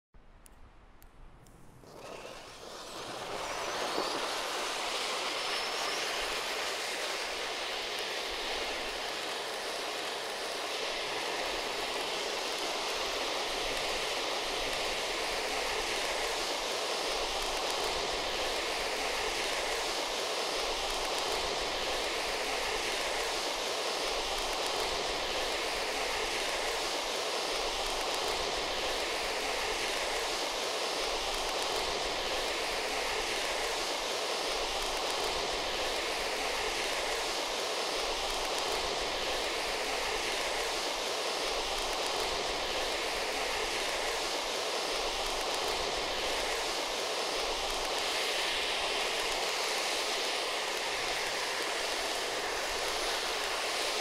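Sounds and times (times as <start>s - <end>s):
stage fountains hissing sparks: 1.9s - 54.0s.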